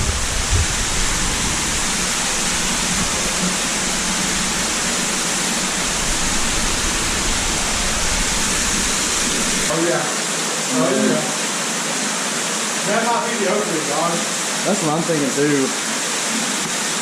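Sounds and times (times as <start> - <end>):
water rushing through a cave: 0.0 - 17.0.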